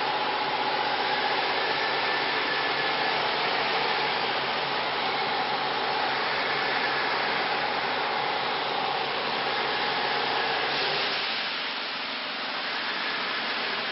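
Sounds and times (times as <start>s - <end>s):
engraving router whirring hiss: 0.0s - 13.9s
faint router whine: 0.0s - 13.9s.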